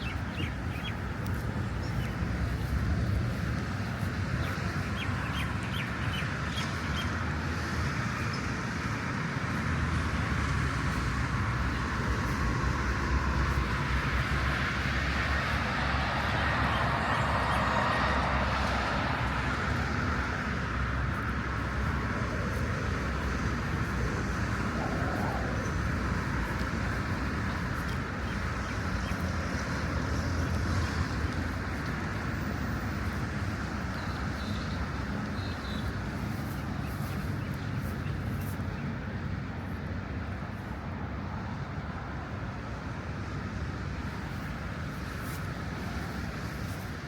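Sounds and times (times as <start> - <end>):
road traffic hum: 0.0 - 47.0.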